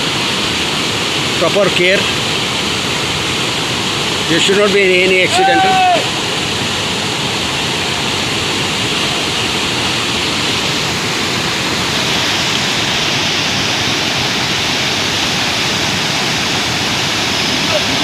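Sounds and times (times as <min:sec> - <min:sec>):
river rushing loudly: 0:00.0 - 0:18.0.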